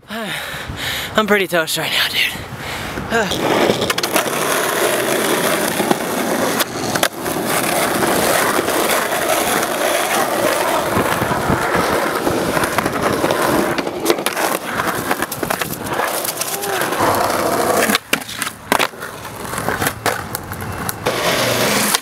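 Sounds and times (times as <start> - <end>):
skateboard wheels rolling on asphalt: 2.9 - 22.0
skateboard clacks: 3.3 - 22.0.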